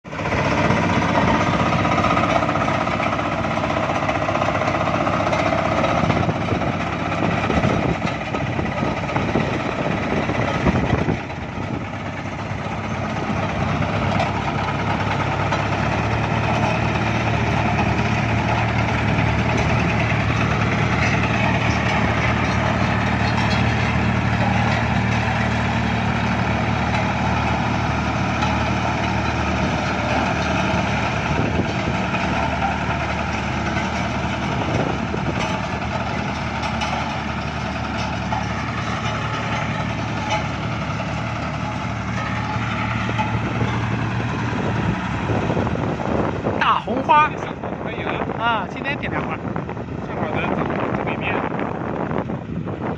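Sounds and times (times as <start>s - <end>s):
road roller engine running: 0.0s - 52.9s.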